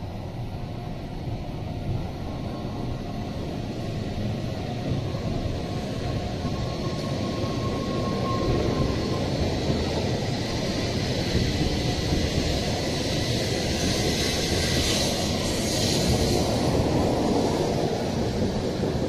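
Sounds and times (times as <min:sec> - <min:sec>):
train departing: 0:00.0 - 0:19.0.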